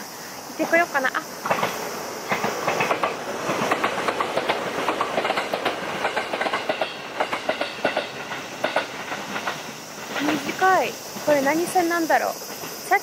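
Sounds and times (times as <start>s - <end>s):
train rushing rumble: 0.4s - 13.0s
train wheels clattering over rail joints: 1.4s - 13.0s.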